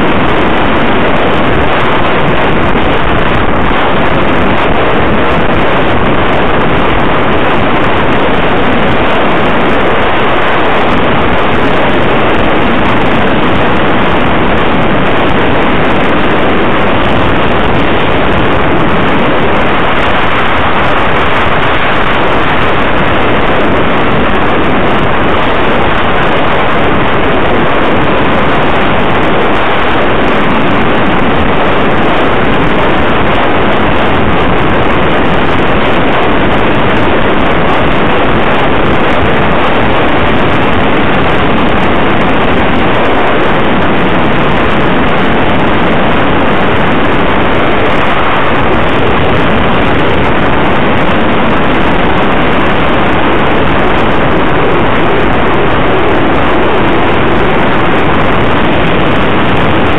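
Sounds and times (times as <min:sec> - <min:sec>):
road noise: 0:00.0 - 0:59.9
wind rushing on microphone: 0:00.0 - 0:59.9.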